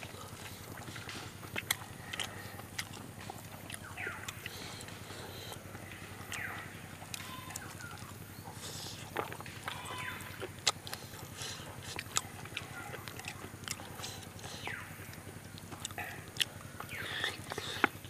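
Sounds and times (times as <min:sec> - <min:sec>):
chewing with wet smacks: 0:00.0 - 0:18.0
sharp mouth clicks: 0:00.0 - 0:18.0.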